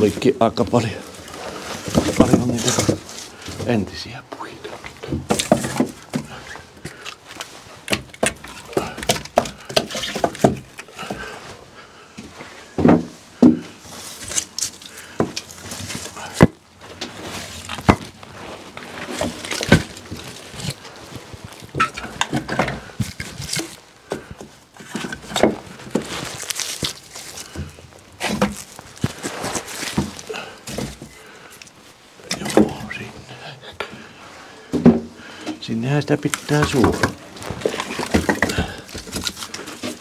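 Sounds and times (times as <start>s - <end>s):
firewood logs clunking: 0.0s - 40.0s
rustling and shuffling: 0.0s - 40.0s.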